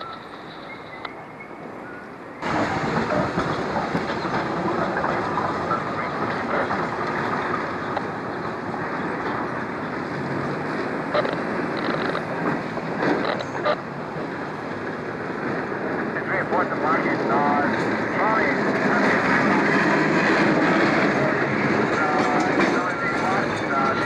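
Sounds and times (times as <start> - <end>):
street noise: 0.0 - 24.0
streetcar wheels clattering on rails: 0.0 - 24.0.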